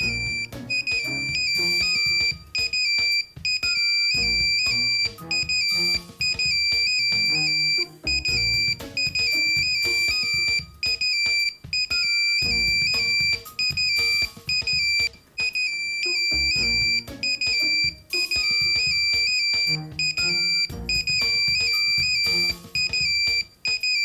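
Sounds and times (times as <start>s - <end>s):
phone ringtone music: 0.0s - 24.0s.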